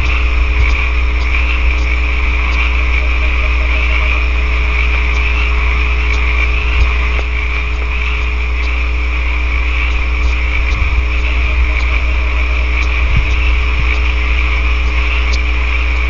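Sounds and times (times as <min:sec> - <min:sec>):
electrical hum and hiss: 0:00.0 - 0:16.0
frog chorus trilling: 0:00.0 - 0:16.0.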